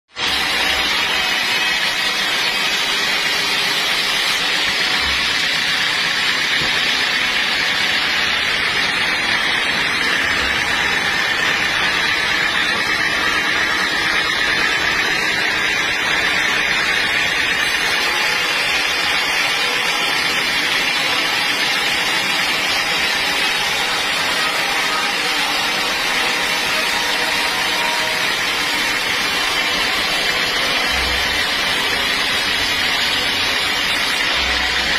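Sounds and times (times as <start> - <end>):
band saw cutting log: 0.1 - 34.9.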